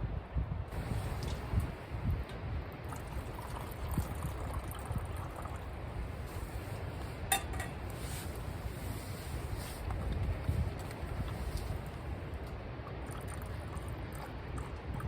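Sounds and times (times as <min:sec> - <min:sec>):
outdoor noise: 0:00.0 - 0:15.0
wind buffeting microphone: 0:00.0 - 0:15.0.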